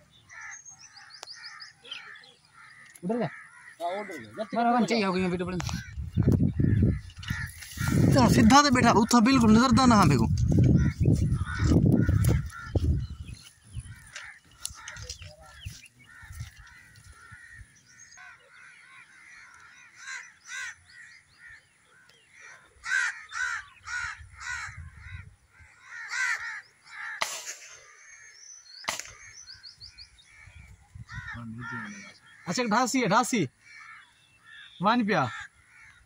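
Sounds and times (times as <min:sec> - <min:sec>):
crows cawing: 0:00.2 - 0:36.0.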